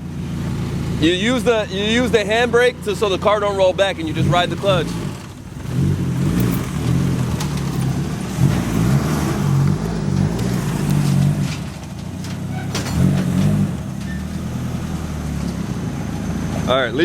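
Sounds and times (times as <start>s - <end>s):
car engine revving lightly: 0.0s - 17.0s.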